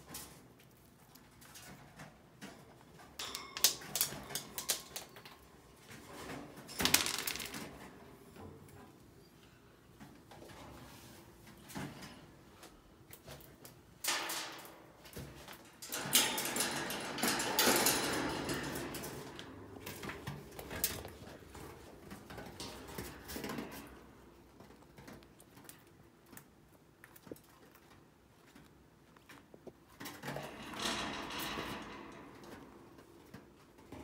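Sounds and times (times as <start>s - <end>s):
rustling and scraping in wire cage: 0.0s - 9.0s, 10.0s - 26.5s, 27.2s - 34.0s.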